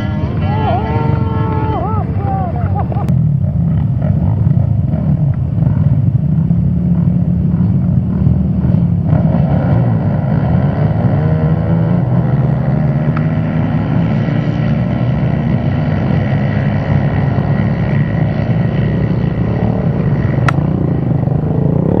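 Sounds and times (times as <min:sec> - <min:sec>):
quad bike engines revving: 0:00.0 - 0:22.0.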